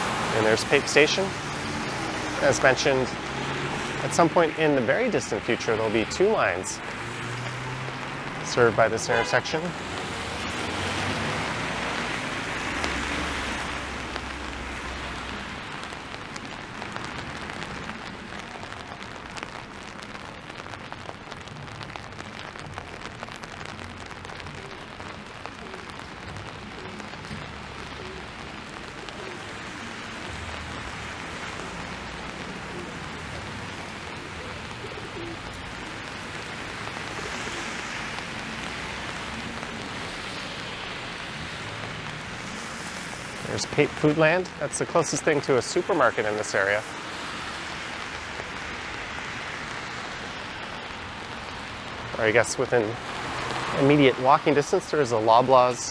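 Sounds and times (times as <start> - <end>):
car tyres hissing on wet road: 0.0 - 55.9
rain on wet pavement: 0.0 - 55.9.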